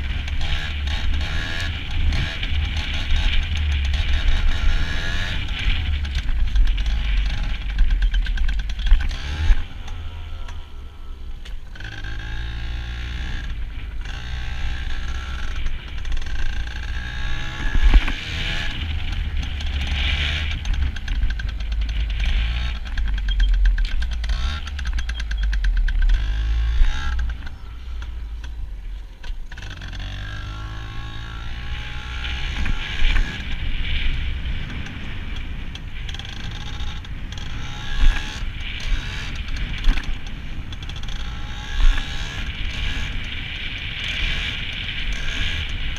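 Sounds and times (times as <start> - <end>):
two-stroke engine revving: 0.0 - 28.6, 29.2 - 45.9
wind rumble on microphone: 0.0 - 45.9.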